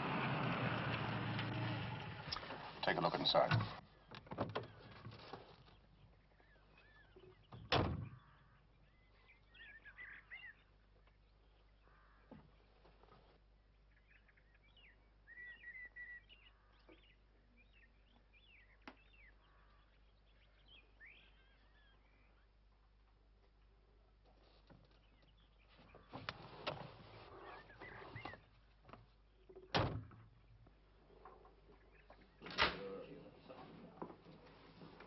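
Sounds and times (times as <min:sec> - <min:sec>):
small birds chirping: 0:01.3 - 0:29.7, 0:30.3 - 0:35.0.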